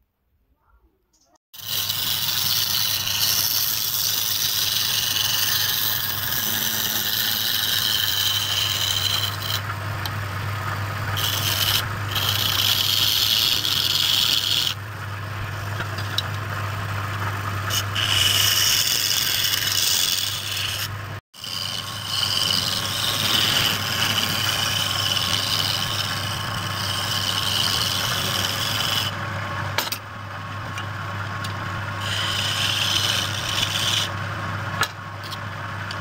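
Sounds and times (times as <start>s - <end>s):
chisel scraping spinning wood: 1.6s - 30.0s, 30.6s - 34.2s
lathe motor low hum: 1.6s - 36.0s.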